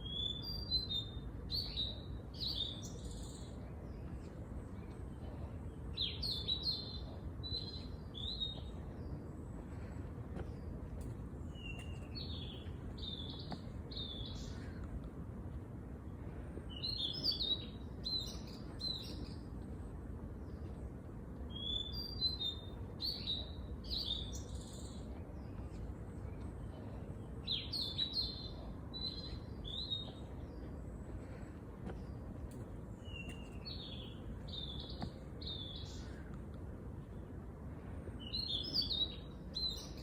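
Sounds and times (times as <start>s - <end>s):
low background rumble: 0.0s - 40.0s
songbirds chirping: 0.0s - 40.0s.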